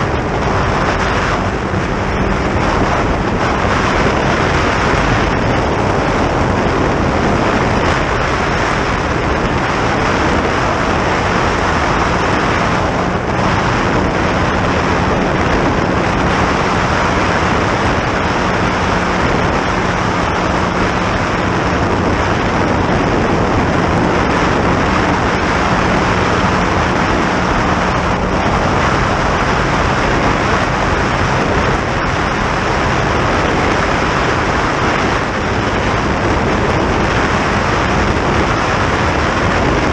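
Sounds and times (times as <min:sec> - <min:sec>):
motorboat engine hum: 0:00.0 - 0:39.9
rush of wind and water: 0:00.0 - 0:39.9.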